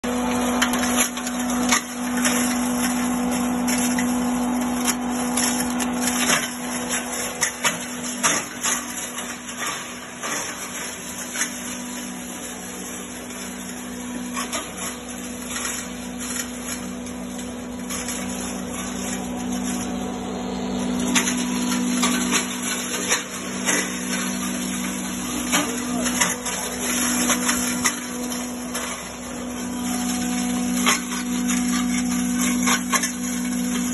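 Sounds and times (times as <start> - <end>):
clicks and rattles of dried leaves: 0.0 - 33.9
grinding machine humming: 0.0 - 33.9.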